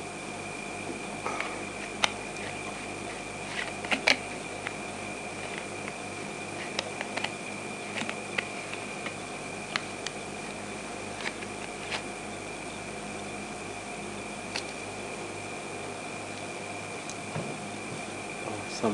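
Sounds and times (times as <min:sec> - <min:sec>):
thin high whine: 0:00.0 - 0:18.9.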